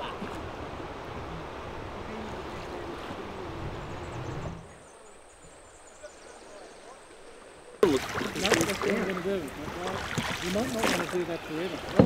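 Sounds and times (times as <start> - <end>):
river rushing: 0.0 - 6.0, 7.2 - 12.0.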